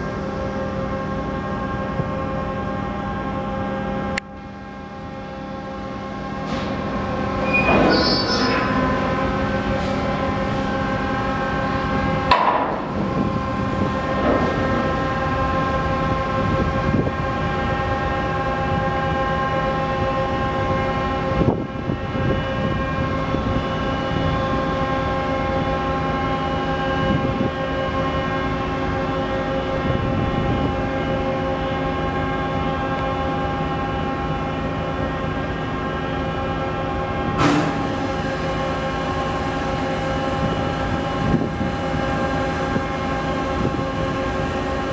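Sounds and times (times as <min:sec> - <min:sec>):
machinery hum: 0:00.0 - 0:44.9.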